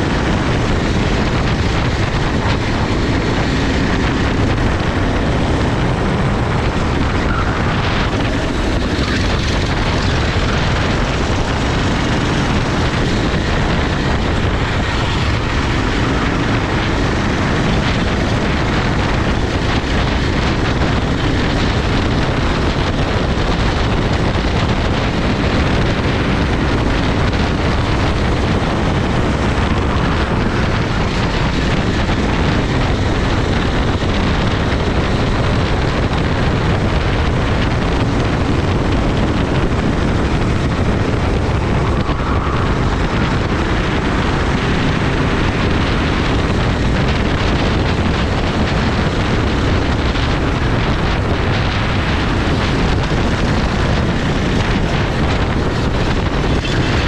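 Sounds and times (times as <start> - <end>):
kart engine running: 0.0 - 57.0
wind noise on microphone: 0.0 - 57.0.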